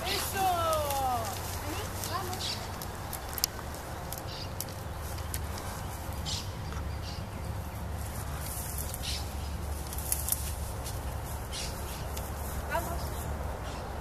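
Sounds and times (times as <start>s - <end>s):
footsteps through dry grass: 0.0s - 13.9s.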